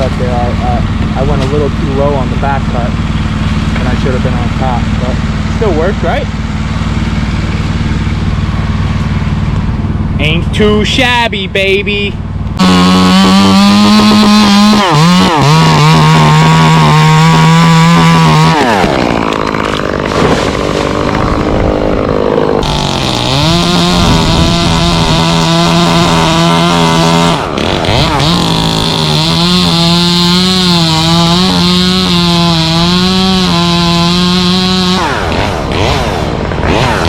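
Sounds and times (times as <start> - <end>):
chainsaw cutting wood: 0.0 - 10.4, 12.5 - 37.0.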